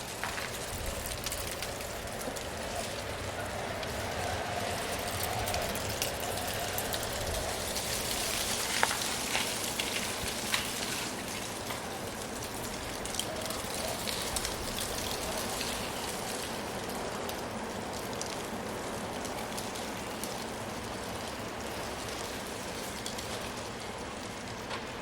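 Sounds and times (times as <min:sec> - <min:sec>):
faint low wind howl: 0:00.0 - 0:25.0
wind rustling leaves: 0:00.0 - 0:25.0.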